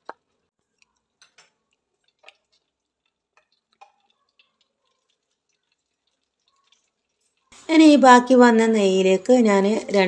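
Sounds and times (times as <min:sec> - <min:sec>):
hot ghee popping in pan: 0:00.0 - 0:08.3.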